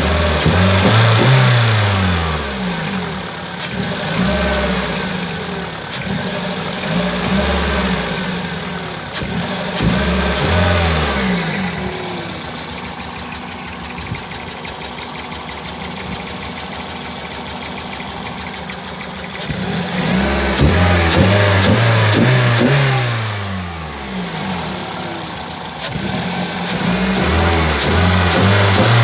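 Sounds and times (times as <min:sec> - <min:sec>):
car engine idling: 0:00.0 - 0:29.0
car engine revving: 0:00.0 - 0:29.0.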